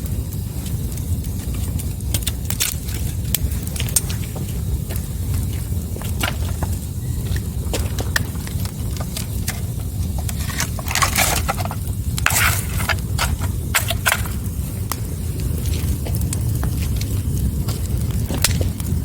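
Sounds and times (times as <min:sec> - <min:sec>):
low steady rumble: 0:00.0 - 0:19.0
wood fire crackling: 0:00.0 - 0:19.0.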